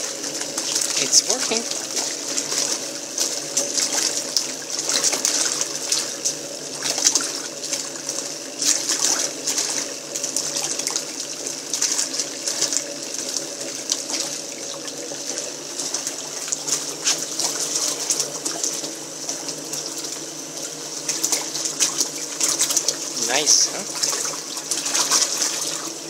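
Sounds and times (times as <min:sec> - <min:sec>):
washing machine motor hum: 0:00.0 - 0:26.0
water sloshing in washing machine: 0:00.0 - 0:26.0.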